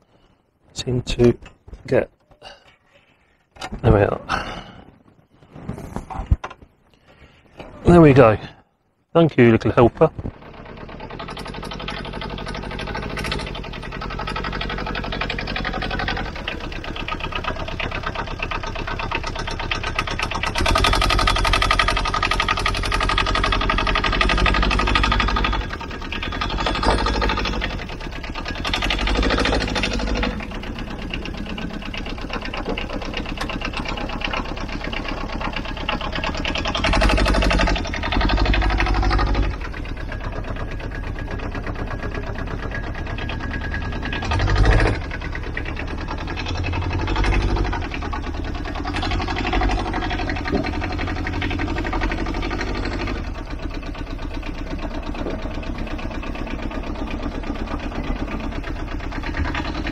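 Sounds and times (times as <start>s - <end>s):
diesel engine idling and revving: 10.3s - 59.9s.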